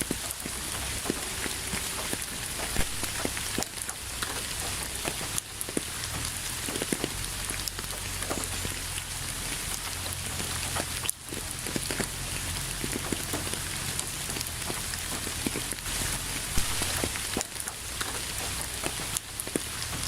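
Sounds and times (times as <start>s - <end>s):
raindrops tapping: 0.0s - 20.0s
steady rain falling: 0.0s - 20.0s.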